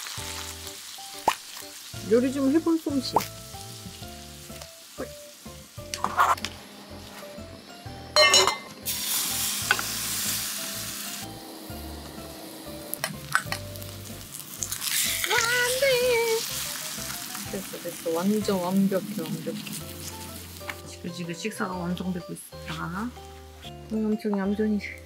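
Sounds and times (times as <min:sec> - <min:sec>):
batter sizzling in hot oil: 0:00.0 - 0:23.6
background music: 0:00.0 - 0:25.0.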